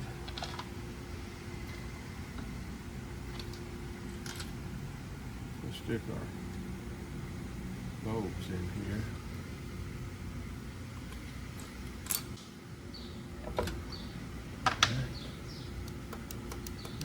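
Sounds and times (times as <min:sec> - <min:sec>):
shop fan hum: 0:00.0 - 0:17.0.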